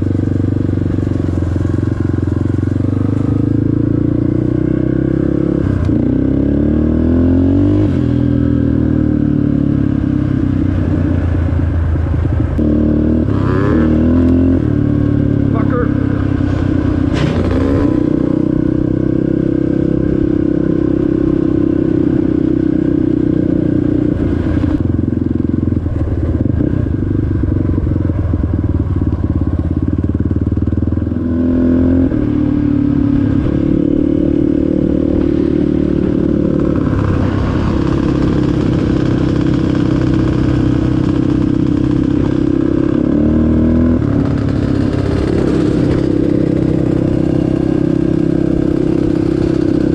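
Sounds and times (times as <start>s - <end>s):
off-road vehicle engine running: 0.0s - 49.9s.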